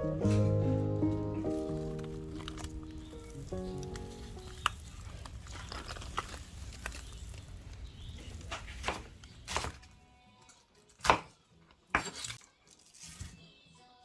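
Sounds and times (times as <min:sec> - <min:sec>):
soft background music: 0:00.0 - 0:06.3, 0:08.8 - 0:14.0.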